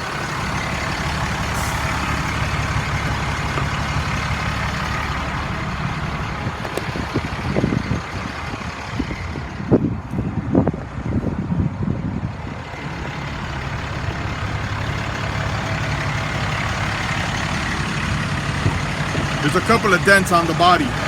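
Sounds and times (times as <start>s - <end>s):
engine knocks: 0.0s - 10.2s, 12.8s - 21.0s
diesel engine idling: 0.0s - 21.0s.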